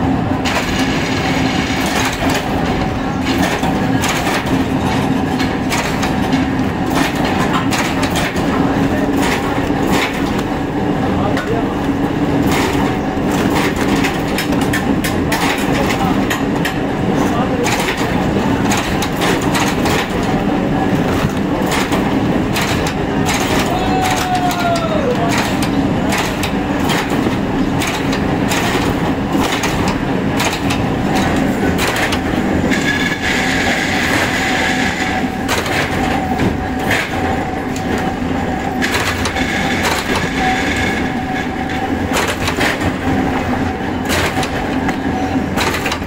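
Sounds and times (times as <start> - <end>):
factory machinery hum: 0.0 - 46.0.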